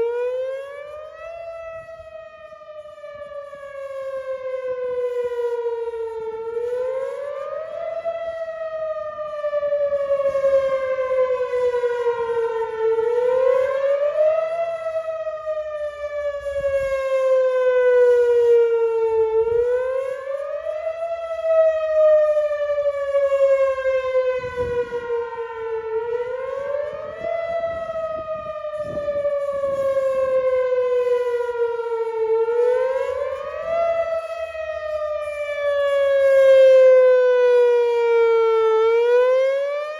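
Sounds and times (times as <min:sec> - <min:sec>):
electronic warning siren rising and falling: 0:00.0 - 0:39.9.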